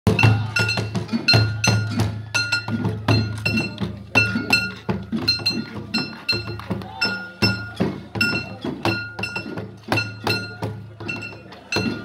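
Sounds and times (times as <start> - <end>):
metal percussion struck rhythmically: 0.1 - 12.0.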